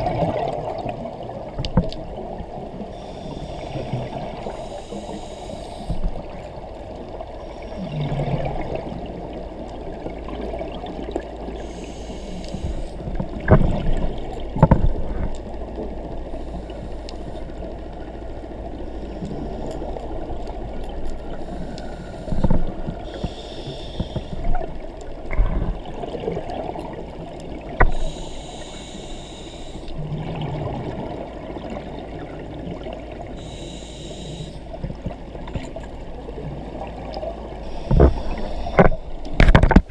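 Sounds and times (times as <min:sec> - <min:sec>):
regulator hiss and bubbles: 0:02.2 - 0:09.6, 0:10.2 - 0:14.4, 0:15.0 - 0:39.9
muffled underwater rumble: 0:07.0 - 0:39.9.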